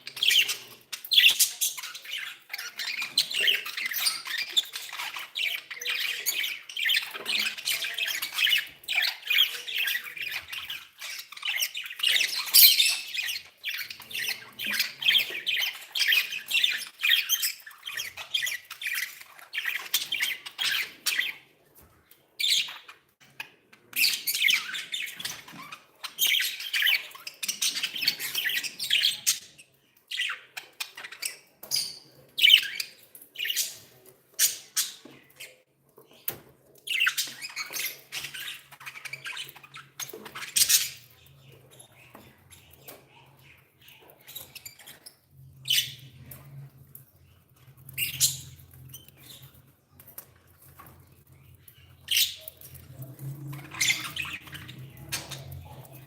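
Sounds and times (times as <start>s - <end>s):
budgerigars chattering and squawking: 0.0s - 21.5s, 22.4s - 36.3s, 36.9s - 56.0s.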